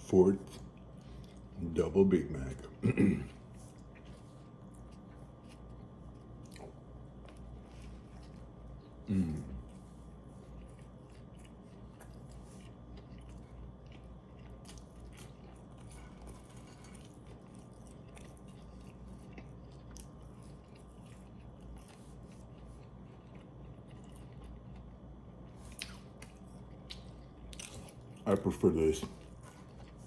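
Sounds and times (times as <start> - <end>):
low room hum: 0.0 - 30.0
person chewing: 0.6 - 1.6, 3.2 - 30.0.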